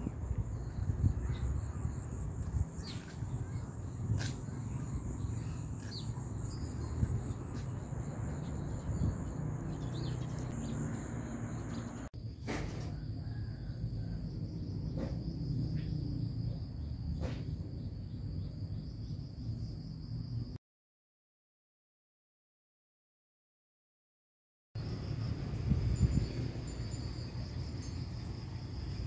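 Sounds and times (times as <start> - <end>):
insects droning whine: 0.0 - 20.6, 24.8 - 29.0.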